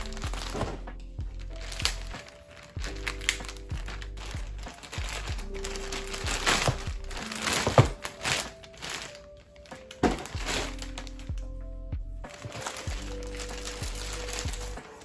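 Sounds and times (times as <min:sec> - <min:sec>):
plastic mailer bag crinkling: 0:00.0 - 0:11.4, 0:12.3 - 0:15.0
soft background music: 0:00.0 - 0:15.0.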